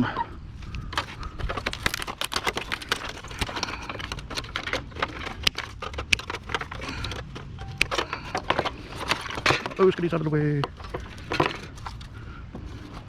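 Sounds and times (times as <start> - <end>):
clatter of small parts and tools: 0.9 - 13.0.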